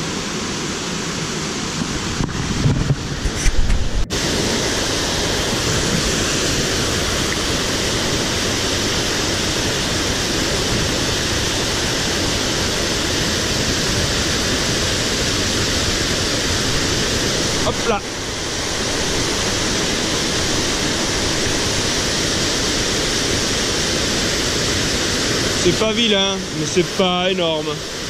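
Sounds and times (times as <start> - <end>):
small waterfall rushing: 0.0 - 28.0.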